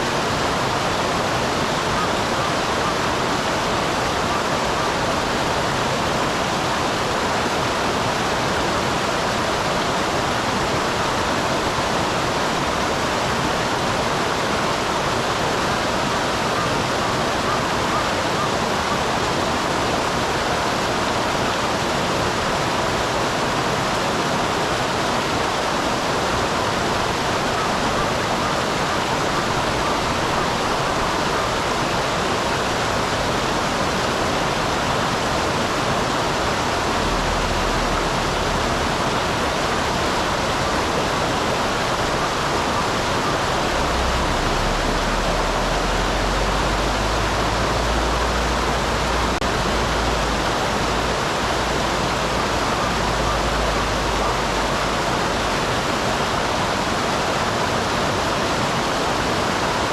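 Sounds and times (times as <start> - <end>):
stream pouring over waterfall: 0.0 - 59.9.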